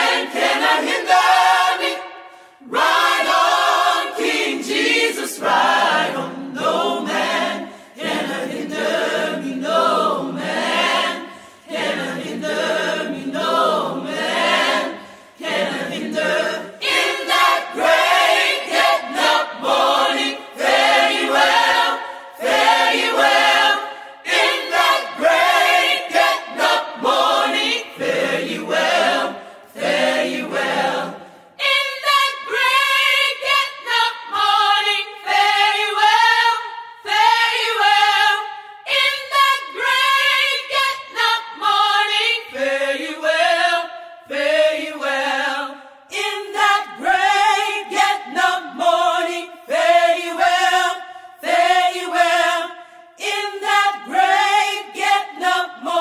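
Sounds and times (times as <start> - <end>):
choir singing unaccompanied: 0.0 - 56.0.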